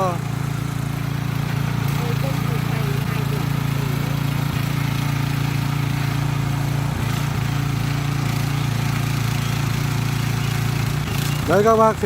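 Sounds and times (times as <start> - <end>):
tiller engine running: 0.0 - 12.0.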